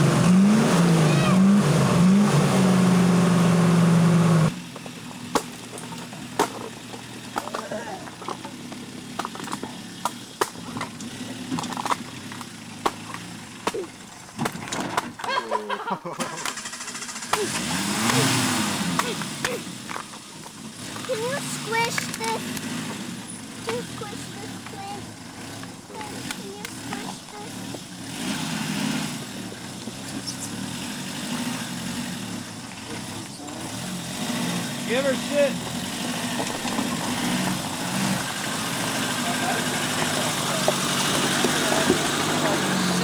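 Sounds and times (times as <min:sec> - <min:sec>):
engine running at low revs: 0:00.0 - 0:15.3, 0:16.1 - 0:43.0.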